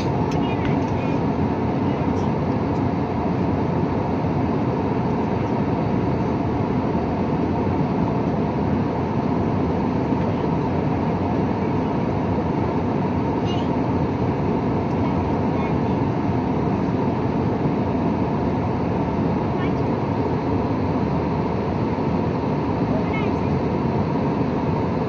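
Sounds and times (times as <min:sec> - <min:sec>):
engine rumble: 0:00.0 - 0:25.0.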